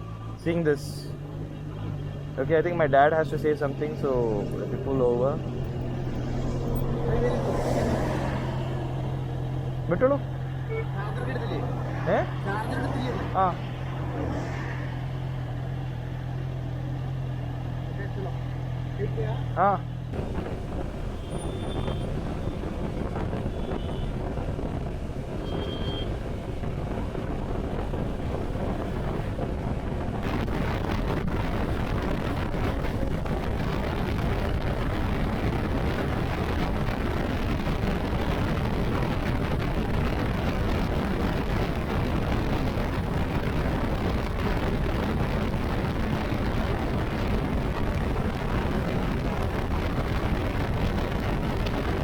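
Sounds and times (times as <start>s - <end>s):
road noise: 0.0s - 52.0s
wind rumble: 1.0s - 17.8s, 20.1s - 52.0s.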